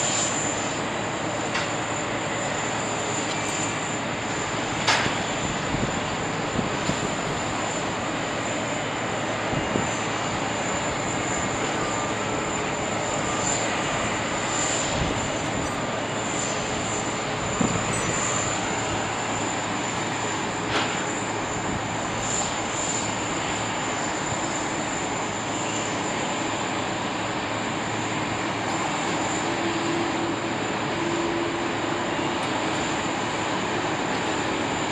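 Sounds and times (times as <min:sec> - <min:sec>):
high engine whine: 0:00.0 - 0:34.9
jet engines roaring: 0:00.0 - 0:34.9.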